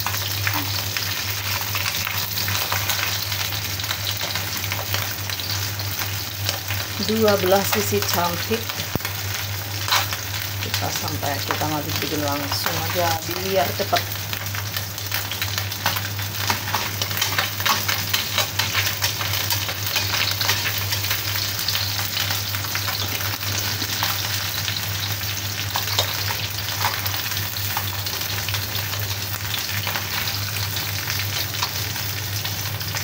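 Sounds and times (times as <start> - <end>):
fish sizzling in hot oil: 0.0 - 33.0.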